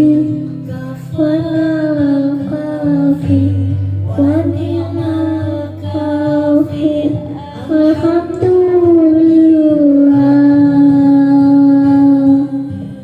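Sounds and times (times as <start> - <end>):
low steady accompaniment: 0.0 - 13.0
person singing devotional song: 0.0 - 13.0.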